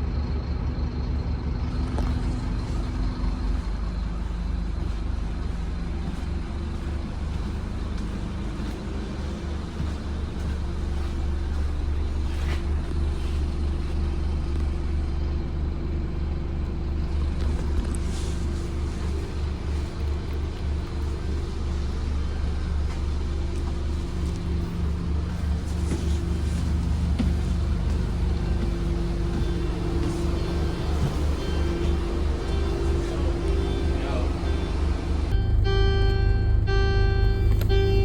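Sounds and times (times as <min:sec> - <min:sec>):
bus diesel engine droning: 0:00.0 - 0:38.0.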